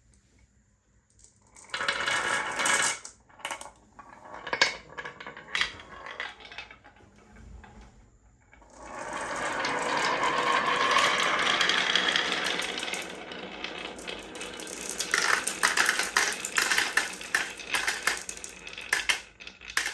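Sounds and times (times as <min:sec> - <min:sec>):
marbles clicking and clattering: 0:01.1 - 0:07.0, 0:08.7 - 0:19.9
marbles rolling: 0:01.1 - 0:07.0, 0:08.6 - 0:19.9.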